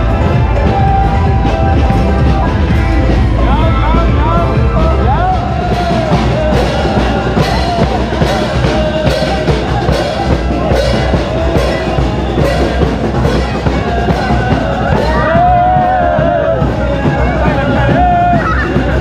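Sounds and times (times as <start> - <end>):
loud music with drum beat: 0.0 - 19.0.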